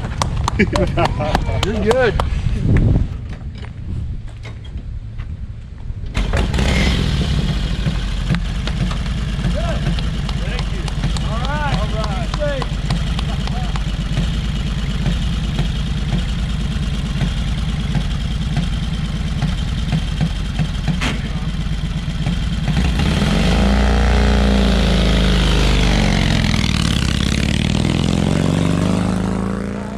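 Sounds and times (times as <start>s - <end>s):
motorcycle engine idling and revving: 4.8s - 29.9s.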